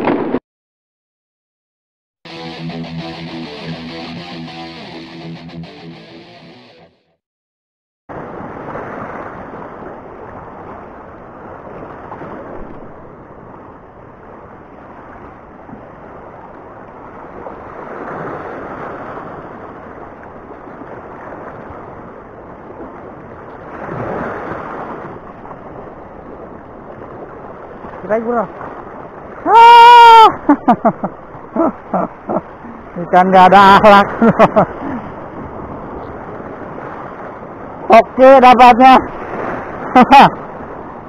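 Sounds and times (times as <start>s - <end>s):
sea waves washing over reef: 8.1s - 41.0s.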